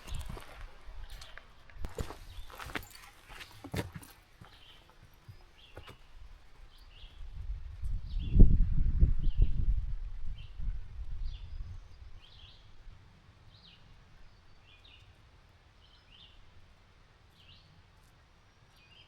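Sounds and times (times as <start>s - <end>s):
quiet woodland background: 0.0s - 8.5s, 9.2s - 19.0s.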